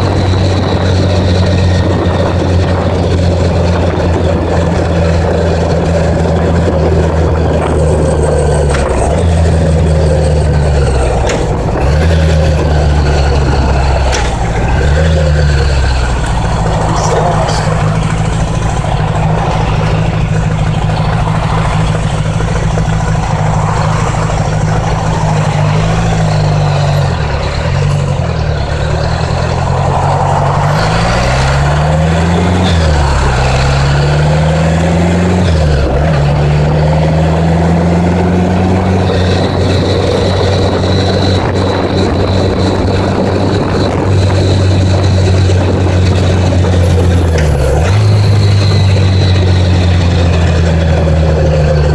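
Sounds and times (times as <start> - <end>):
wind rushing: 0.0 - 48.3
motorcycle engine: 0.0 - 51.9.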